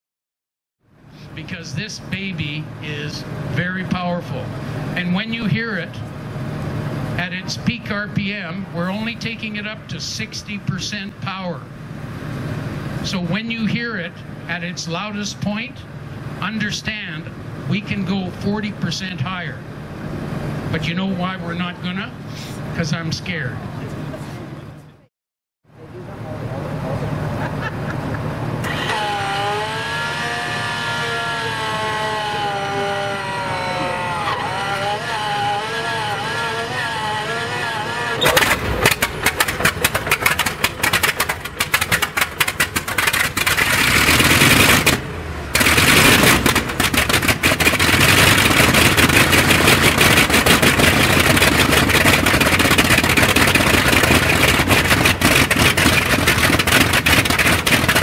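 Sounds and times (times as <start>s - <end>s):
aero engine running: 0.8s - 25.1s, 25.7s - 58.0s
engine cranking whine: 1.1s - 24.8s, 25.8s - 58.0s.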